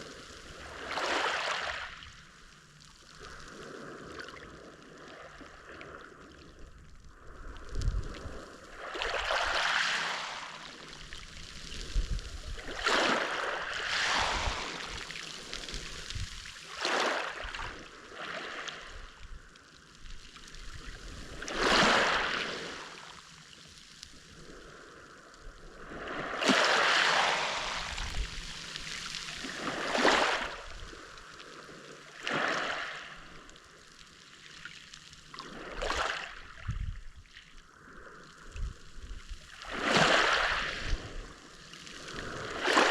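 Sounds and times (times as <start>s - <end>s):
waves washing onto shore: 0.0s - 42.9s.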